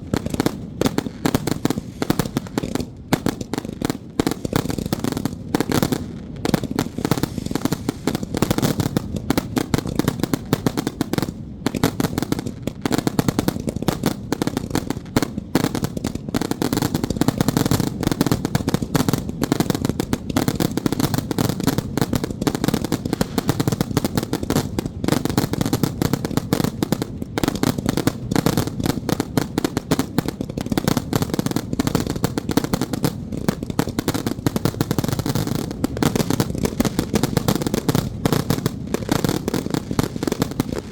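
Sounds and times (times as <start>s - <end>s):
firecrackers going off: 0.0s - 40.9s.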